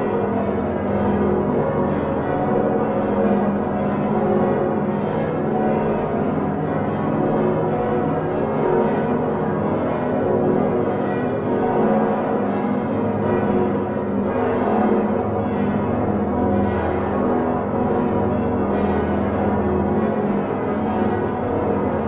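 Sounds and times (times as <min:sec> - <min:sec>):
large church bells ringing: 0:00.0 - 0:22.0.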